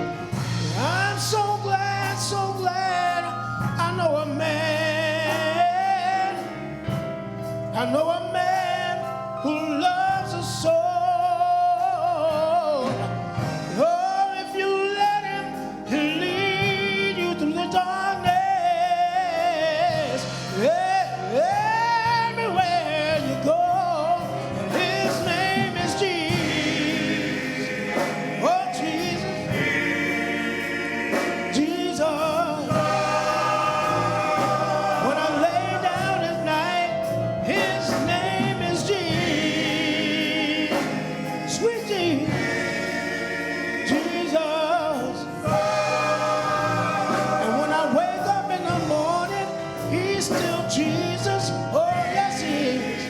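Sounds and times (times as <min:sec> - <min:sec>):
gospel choir singing: 0:00.0 - 0:53.0.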